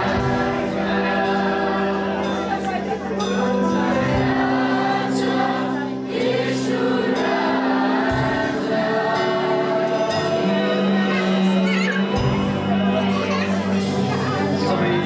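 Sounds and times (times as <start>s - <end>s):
group singing worship song: 0.0s - 15.0s
instrumental accompaniment: 0.0s - 15.0s.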